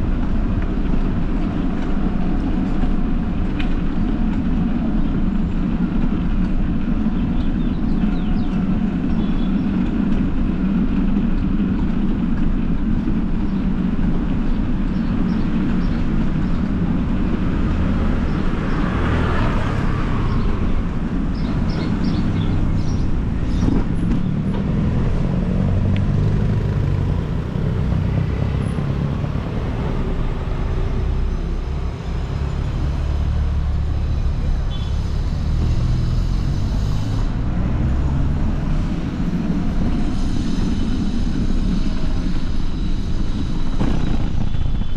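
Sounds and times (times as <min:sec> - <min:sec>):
wind buffeting microphone: 0:00.0 - 0:34.9, 0:35.5 - 0:44.9.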